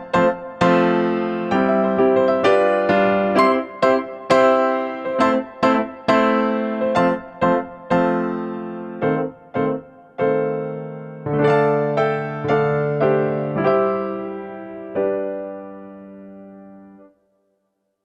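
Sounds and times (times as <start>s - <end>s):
keyboard piano melody: 0.0s - 17.2s.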